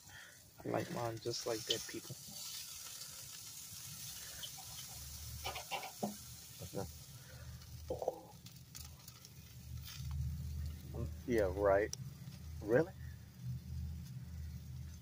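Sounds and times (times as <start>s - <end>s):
steaks sizzling on a grill: 0.0s - 15.0s.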